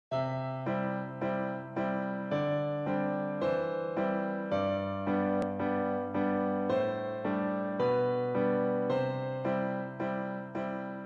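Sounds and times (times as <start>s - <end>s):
gentle piano-like chords: 0.1s - 11.0s.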